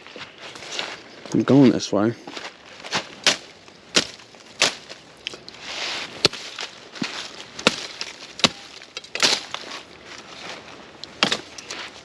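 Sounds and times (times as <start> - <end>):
footsteps crunching leaves and twigs: 0.0 - 12.0
leaves rustling: 0.0 - 12.0.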